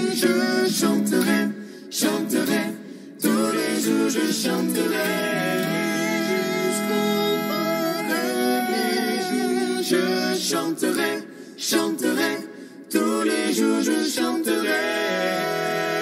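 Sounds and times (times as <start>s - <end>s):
voices singing in harmony: 0.0s - 16.0s.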